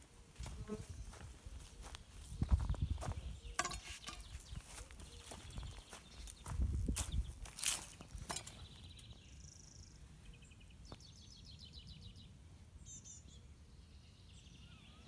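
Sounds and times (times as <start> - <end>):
faint bird chirps: 0.9 - 7.3, 8.4 - 15.0.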